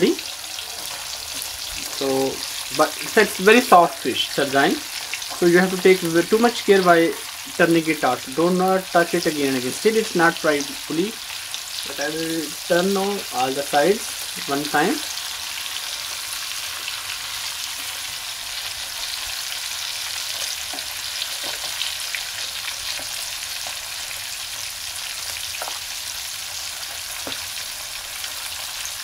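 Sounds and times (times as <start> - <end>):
fish sizzling in hot oil: 0.0 - 29.0.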